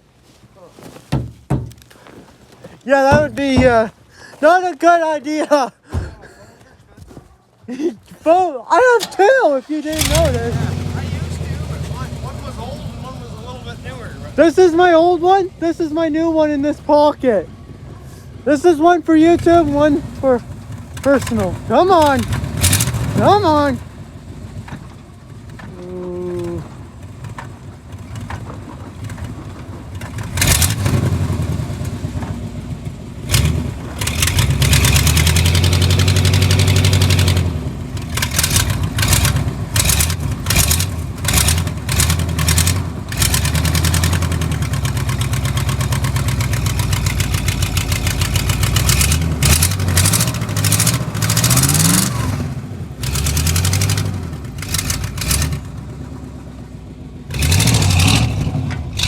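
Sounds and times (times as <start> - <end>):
vehicle engine revving: 2.9 - 5.2, 8.3 - 59.0.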